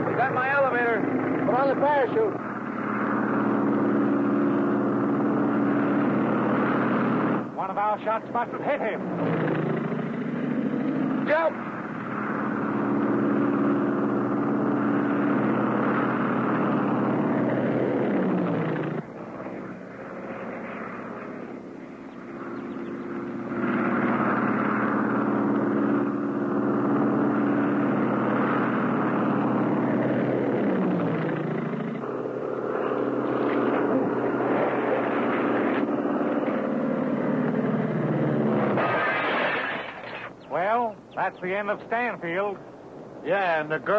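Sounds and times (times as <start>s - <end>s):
propeller plane engine: 0.0s - 43.9s.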